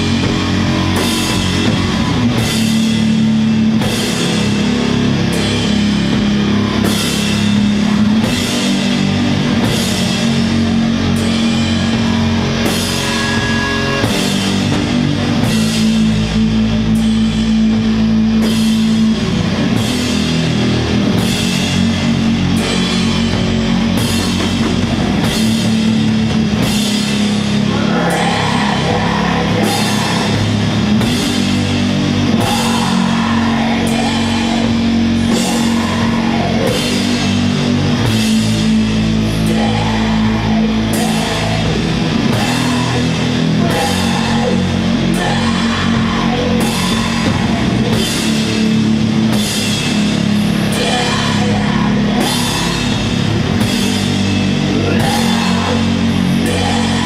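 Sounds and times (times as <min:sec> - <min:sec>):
drums: 0:00.0 - 0:57.0
heavy guitar and bass chords: 0:00.0 - 0:57.0.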